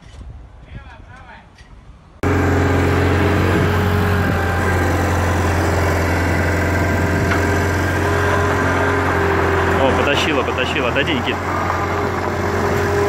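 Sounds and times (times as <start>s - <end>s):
loader engine running: 2.2s - 13.0s.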